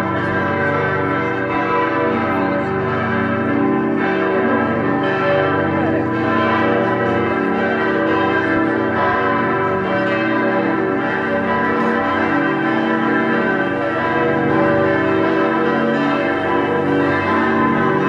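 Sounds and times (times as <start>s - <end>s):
church bells ringing together: 0.0s - 18.0s.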